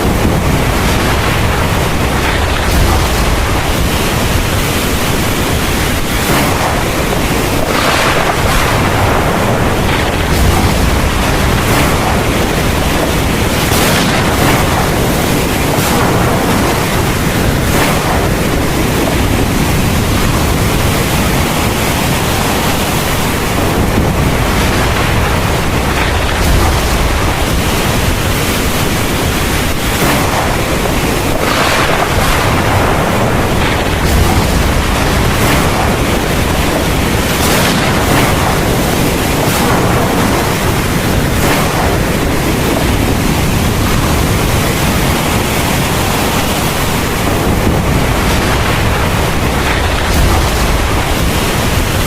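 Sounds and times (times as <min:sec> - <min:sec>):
heavy rain pouring: 0:00.0 - 0:52.0
wind: 0:00.0 - 0:52.0.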